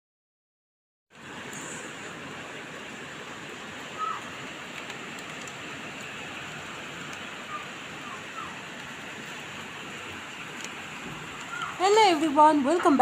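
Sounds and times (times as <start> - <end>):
steady rain falling: 1.1 - 13.0.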